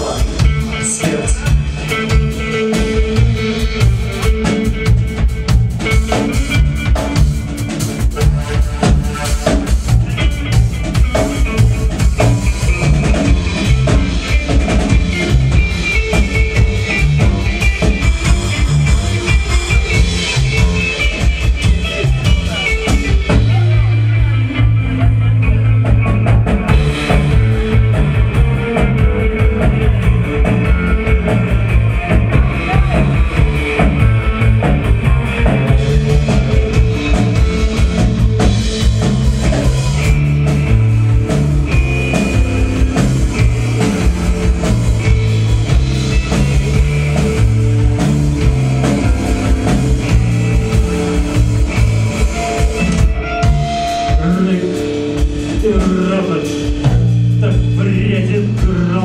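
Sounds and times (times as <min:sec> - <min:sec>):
bass guitar: 0:00.0 - 0:59.0
drum kit beat: 0:00.0 - 0:59.0
electric guitars: 0:00.0 - 0:59.0.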